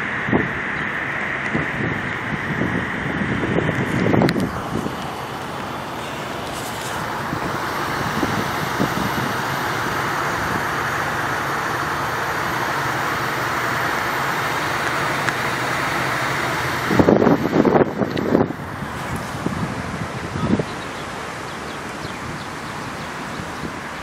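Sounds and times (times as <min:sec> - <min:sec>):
road traffic hiss: 0:00.0 - 0:24.0.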